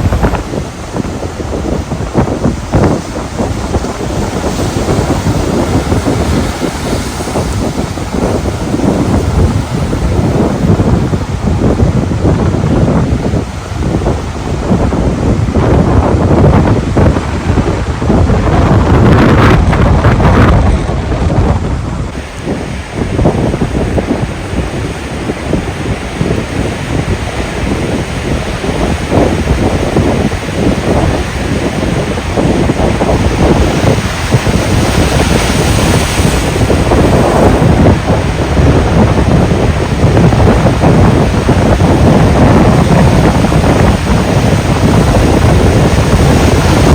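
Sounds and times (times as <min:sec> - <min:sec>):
ocean surf breaking: 0:00.0 - 0:46.9
wave washing: 0:00.0 - 0:46.9
wind gusting over microphone: 0:00.0 - 0:46.9.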